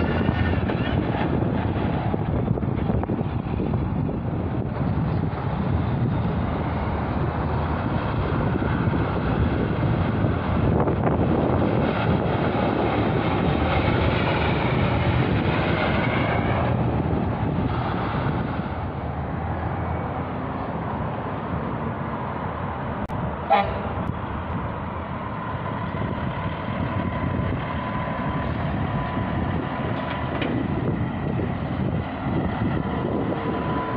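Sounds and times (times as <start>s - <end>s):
trucks and cars passing: 0.0s - 33.9s.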